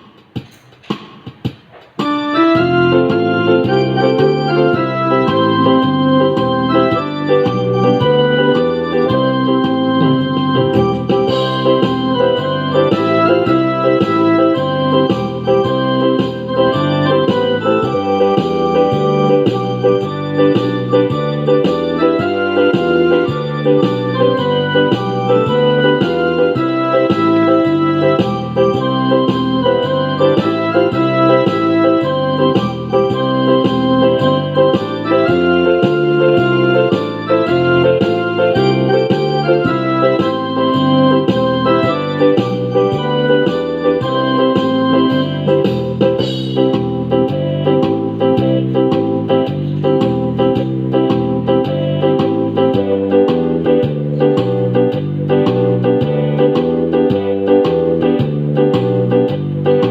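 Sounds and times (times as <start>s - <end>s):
electronic keyboard organ music: 1.9s - 59.9s.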